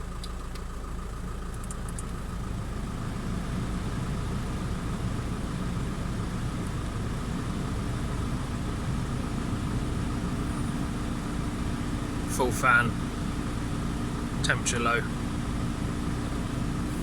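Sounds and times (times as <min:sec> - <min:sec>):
air conditioning whine: 0:00.0 - 0:17.0
car engine idling: 0:00.0 - 0:17.0.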